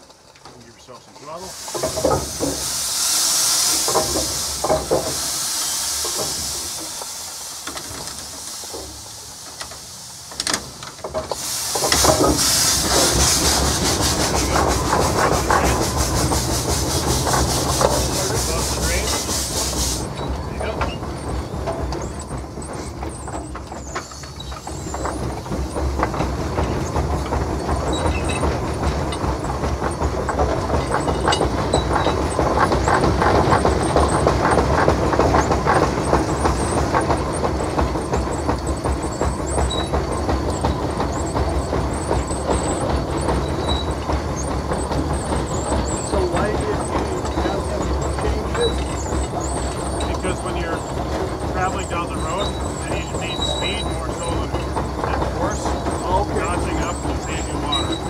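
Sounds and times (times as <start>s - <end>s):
engine gearing clattering: 0.0s - 58.0s
low engine rumble: 0.0s - 58.0s
steam hissing: 1.2s - 58.0s.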